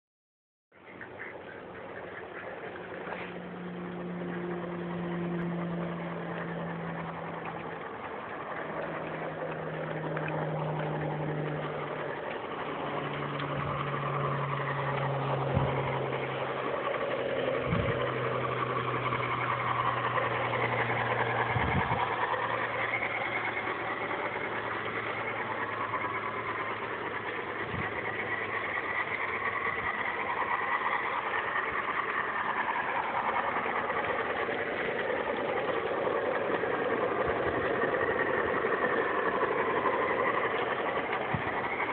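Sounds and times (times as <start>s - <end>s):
low hum: 0.7s - 41.9s
model locomotive running: 0.8s - 41.9s.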